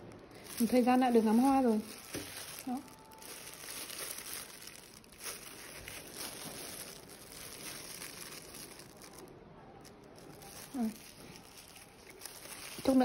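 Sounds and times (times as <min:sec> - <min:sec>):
dry bulbs rustling: 0:00.0 - 0:13.0
plastic glove crinkling: 0:00.0 - 0:13.0.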